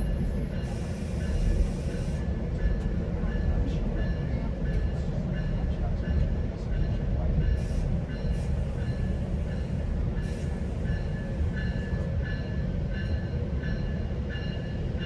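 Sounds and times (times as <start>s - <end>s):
train rumbling on board: 0.0s - 15.0s.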